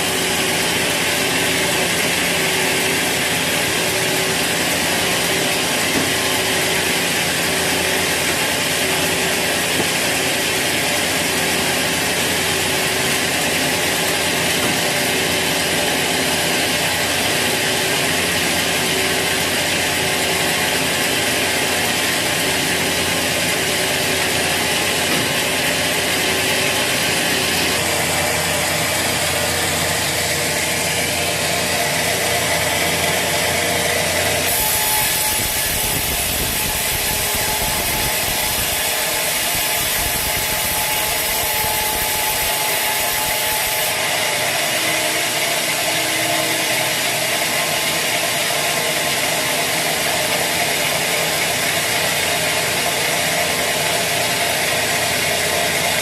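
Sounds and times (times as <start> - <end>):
saw cutting through log: 0.0 - 56.0
sawmill machinery rattling: 0.0 - 56.0.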